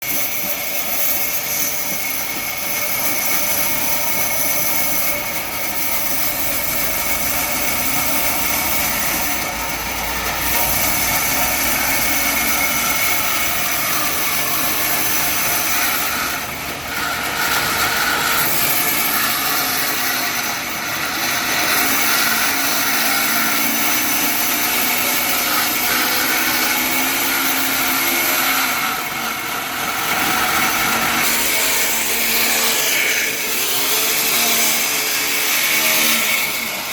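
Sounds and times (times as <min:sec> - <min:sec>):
sawmill machinery whine: 0:00.0 - 0:36.9.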